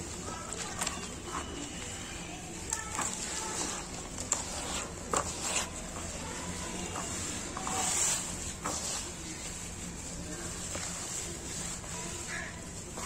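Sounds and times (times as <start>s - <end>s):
gritty rustle of crumbling cement: 0.0s - 13.0s
wet cement squelching: 0.0s - 13.0s.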